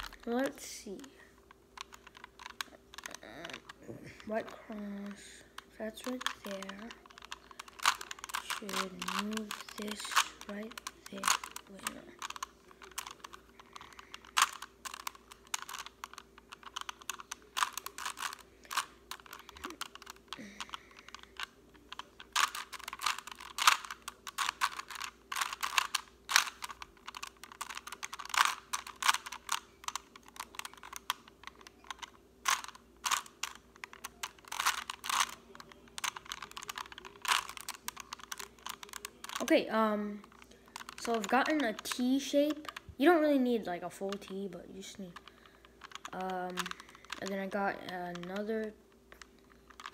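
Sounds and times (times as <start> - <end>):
plastic puzzle cube twisting clicks: 0.0 - 49.9.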